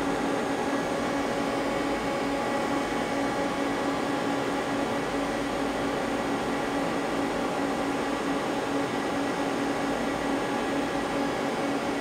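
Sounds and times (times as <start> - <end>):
machine hum with hiss: 0.0 - 12.0.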